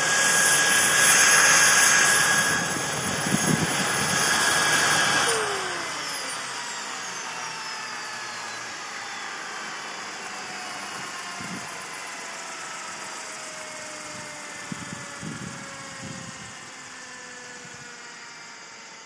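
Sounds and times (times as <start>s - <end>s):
model helicopter engine whine: 0.0s - 19.0s.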